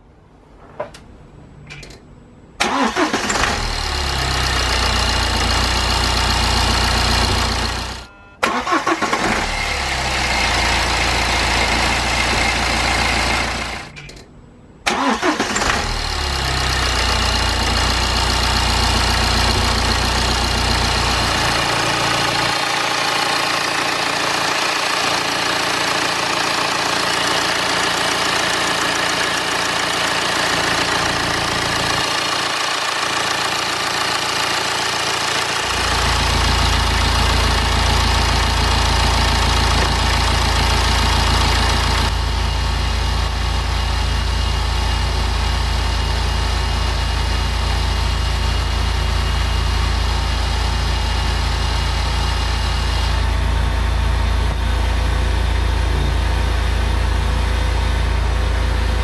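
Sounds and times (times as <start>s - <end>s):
diesel engine starting and idling: 1.6s - 59.0s.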